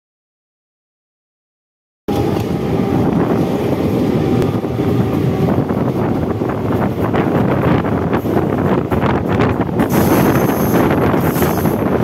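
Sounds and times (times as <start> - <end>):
trains rumbling at speed: 2.1 - 12.0
wind buffeting microphone: 2.1 - 12.0.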